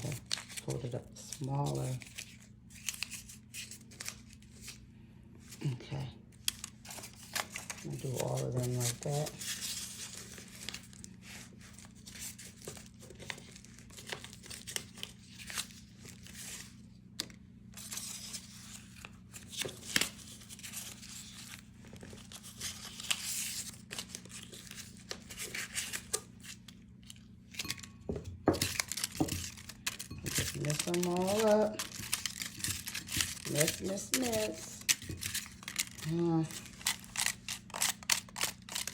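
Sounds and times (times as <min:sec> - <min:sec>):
paper folding and crinkling: 0:00.0 - 0:04.8, 0:05.4 - 0:38.9.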